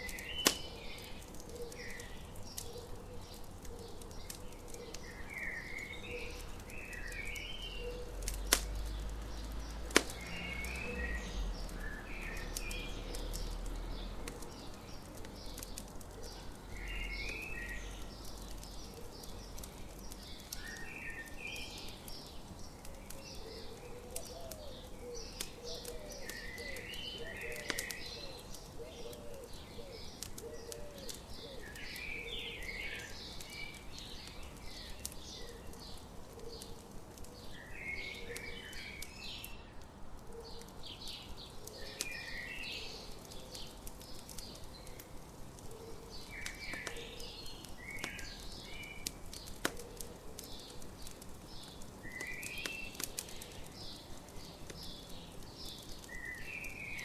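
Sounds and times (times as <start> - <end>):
birdsong chirping: 0.0 - 57.0
campfire crackling and popping: 0.0 - 57.0.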